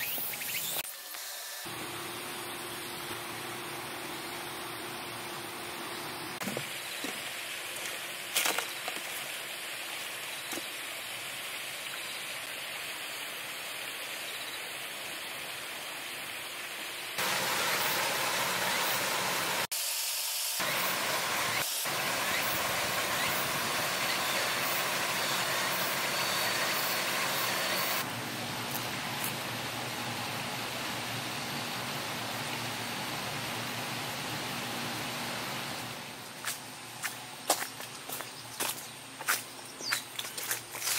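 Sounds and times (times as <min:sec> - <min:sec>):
outdoor ambient hiss: 0:00.0 - 0:40.9.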